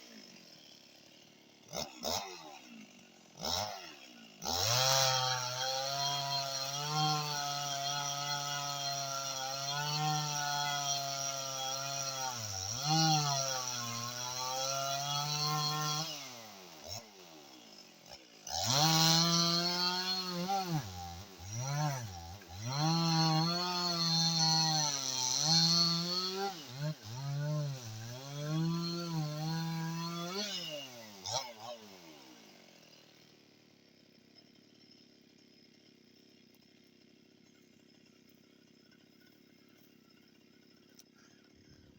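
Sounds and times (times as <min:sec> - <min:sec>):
chainsaw cutting at full throttle: 0:00.0 - 0:41.9.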